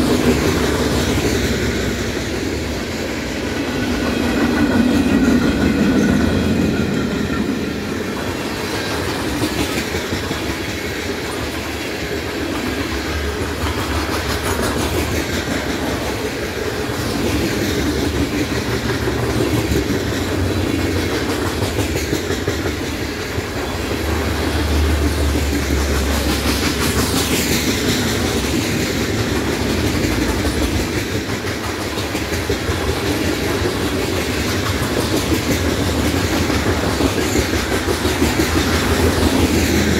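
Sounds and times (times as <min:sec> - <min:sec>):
steel wheels rumbling on rail: 0:00.0 - 0:39.9
wheels clacking over rail joints: 0:00.0 - 0:39.9.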